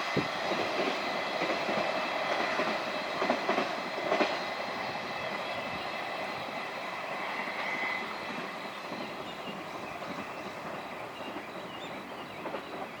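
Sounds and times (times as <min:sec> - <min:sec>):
train wagons rolling on rails: 0:00.0 - 0:13.0.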